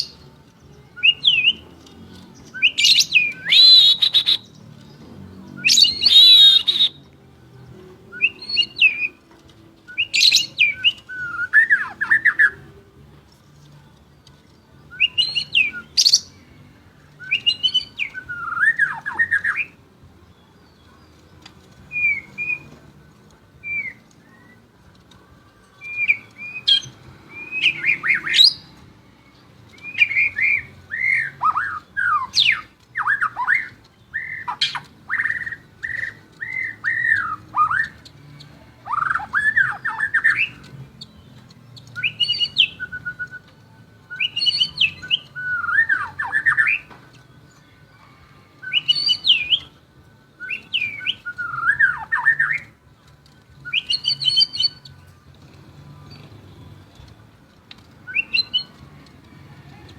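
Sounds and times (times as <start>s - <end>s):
songbird whistling and rasping: 0.0s - 59.9s.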